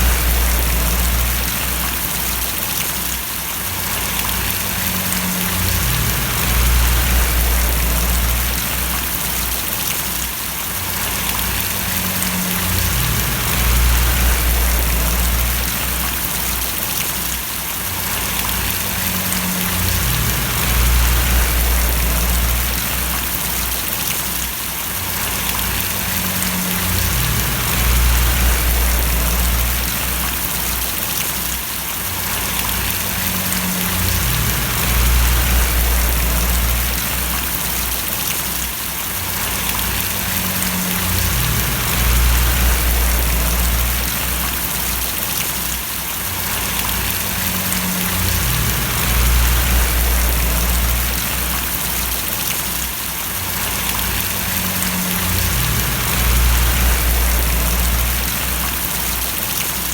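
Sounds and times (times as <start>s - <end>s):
low rumble: 0.0s - 2.3s, 3.9s - 9.8s, 11.0s - 16.5s, 18.2s - 24.0s, 25.1s - 31.0s, 32.3s - 38.2s, 39.4s - 45.2s, 46.6s - 52.5s, 53.5s - 59.4s
steady rain falling: 0.0s - 59.9s.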